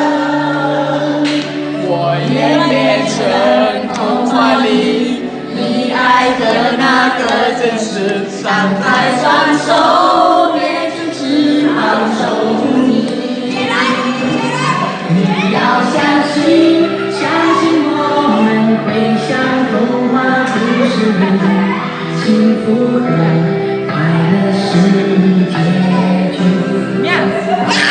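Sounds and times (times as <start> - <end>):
voices singing together: 0.0 - 27.9.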